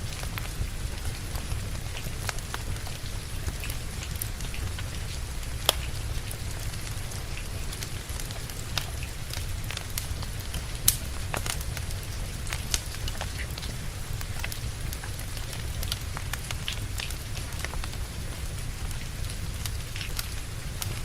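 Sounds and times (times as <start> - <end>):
steady rain: 0.0 - 21.0
wood fire crackling and popping: 0.0 - 21.0.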